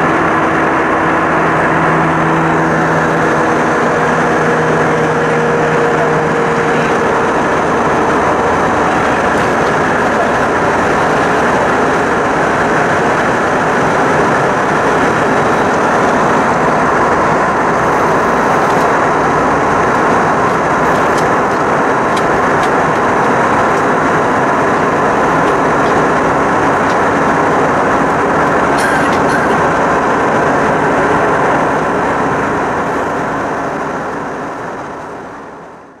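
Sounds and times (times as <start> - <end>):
jet engine roar inside cabin: 0.0 - 36.0.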